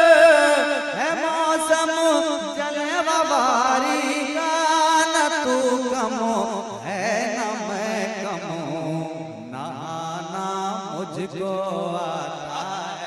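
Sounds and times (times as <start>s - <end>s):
man singing wordless vocal run: 0.0s - 13.0s.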